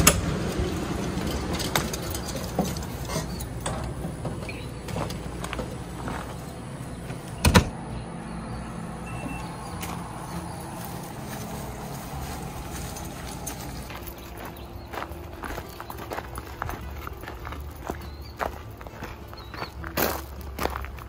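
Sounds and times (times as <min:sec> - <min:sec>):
footsteps on metal steps: 0:00.0 - 0:07.7, 0:09.2 - 0:21.0
steady low hum: 0:00.0 - 0:20.9
footsteps on gravel: 0:00.2 - 0:07.3, 0:09.3 - 0:21.0.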